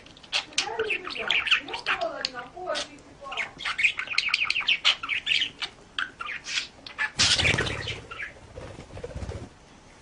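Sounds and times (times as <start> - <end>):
bird chirping and squawking: 0.0 - 8.8.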